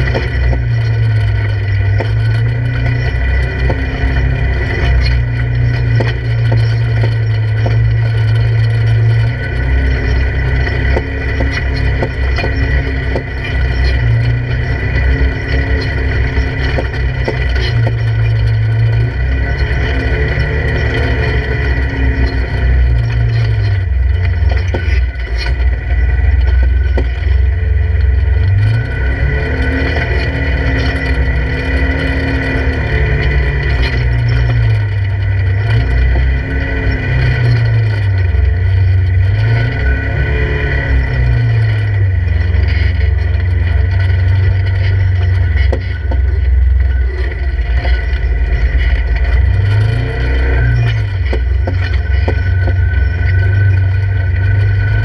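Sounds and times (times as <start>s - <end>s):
engine revving: 0.0s - 55.0s
steady high whine: 0.0s - 55.0s.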